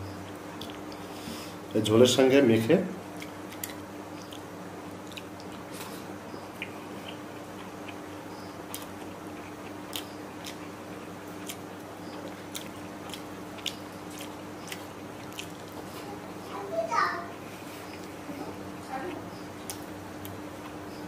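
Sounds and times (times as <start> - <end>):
person chewing food: 0.2 - 1.7, 3.1 - 16.2, 17.3 - 21.0.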